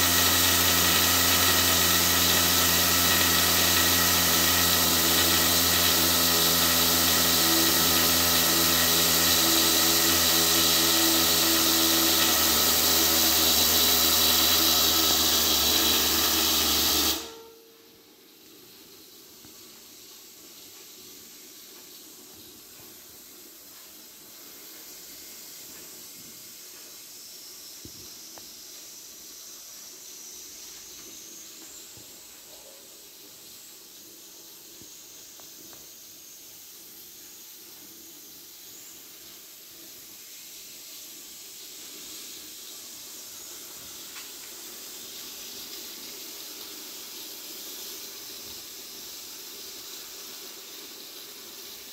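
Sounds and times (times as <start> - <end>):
steam hissing: 0.0 - 51.9.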